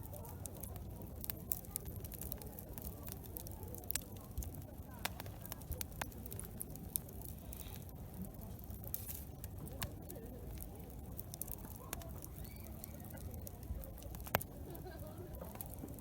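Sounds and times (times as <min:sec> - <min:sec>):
campfire crackling and popping: 0:00.0 - 0:16.0
murmur of distant voices: 0:00.0 - 0:16.0.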